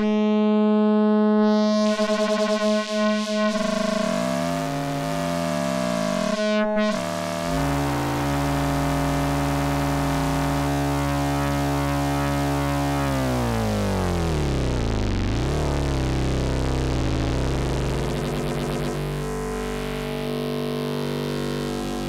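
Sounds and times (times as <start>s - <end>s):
synthesizer tone gliding in pitch: 0.0s - 22.0s.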